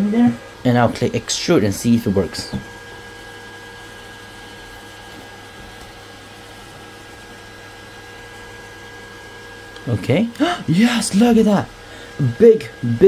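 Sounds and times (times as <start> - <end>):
fans whirring: 0.0 - 13.0
motor whine: 0.0 - 13.0.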